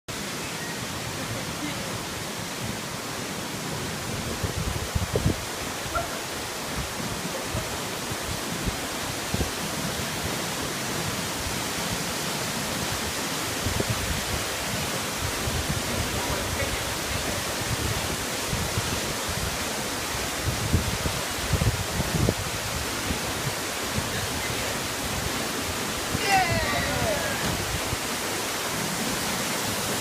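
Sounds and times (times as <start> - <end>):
waterfall rushing: 0.1 - 30.0.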